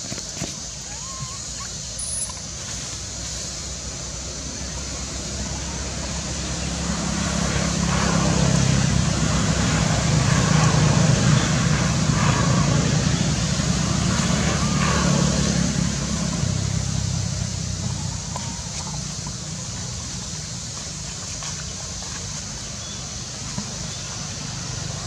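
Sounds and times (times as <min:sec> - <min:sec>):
vehicle engine running: 0:01.8 - 0:25.0.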